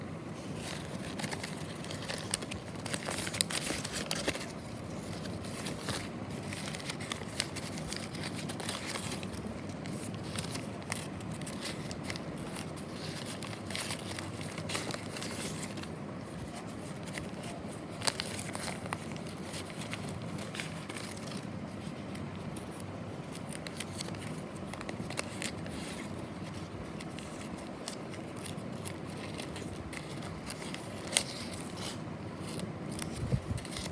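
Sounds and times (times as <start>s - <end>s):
packaging crinkling and tearing: 0.5s - 33.9s.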